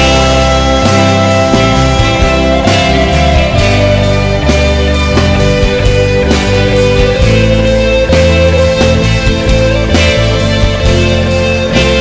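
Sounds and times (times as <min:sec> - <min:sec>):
bass guitar: 0:00.0 - 0:12.0
drums with steady beat: 0:00.0 - 0:12.0
electric guitar: 0:00.0 - 0:12.0.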